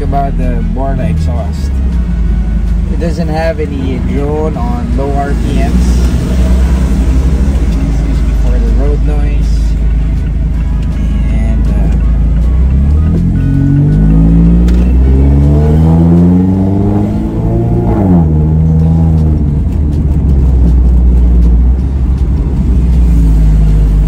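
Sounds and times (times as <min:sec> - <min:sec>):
car engine accelerating: 0:00.0 - 0:24.0
road noise: 0:00.0 - 0:24.0.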